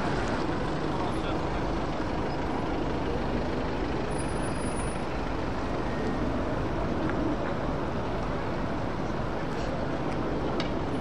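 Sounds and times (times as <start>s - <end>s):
vehicles on wet road: 0.0s - 11.0s.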